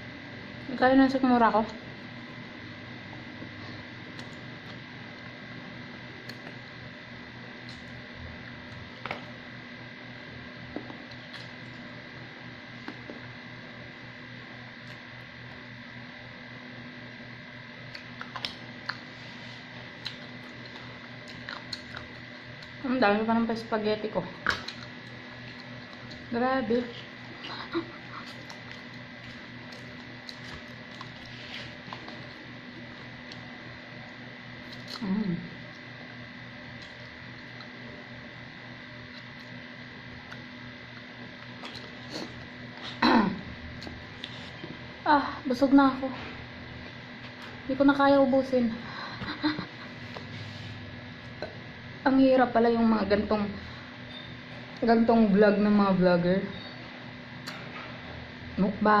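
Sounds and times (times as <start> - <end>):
background hum: 0.0 - 59.0.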